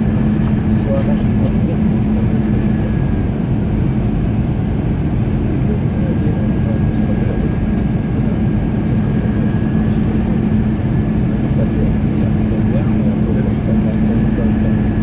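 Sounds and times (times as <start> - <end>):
aircraft cabin engine and airflow noise: 0.0 - 15.0
faint high whine: 0.0 - 15.0
low steady hum: 0.0 - 15.0.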